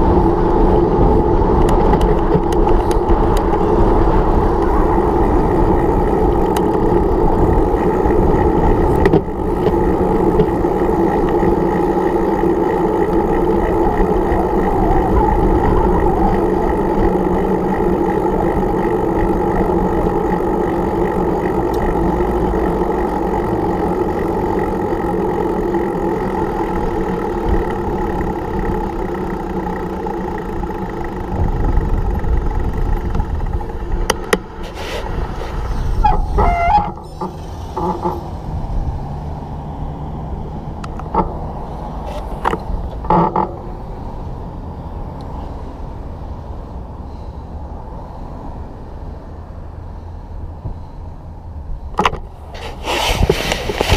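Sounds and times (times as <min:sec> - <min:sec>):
bicycle road noise: 0:00.0 - 0:53.9
vehicle engine nearby: 0:00.0 - 0:53.9.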